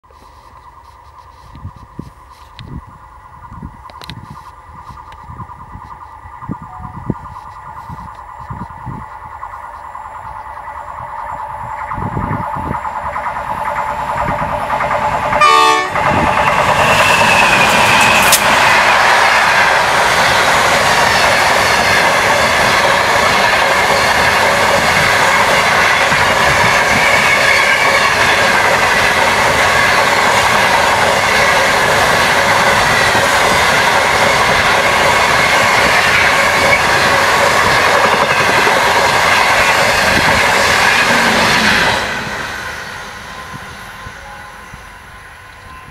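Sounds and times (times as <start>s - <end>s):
train passing: 0.1s - 45.9s
wheels clattering on rail: 3.9s - 43.0s.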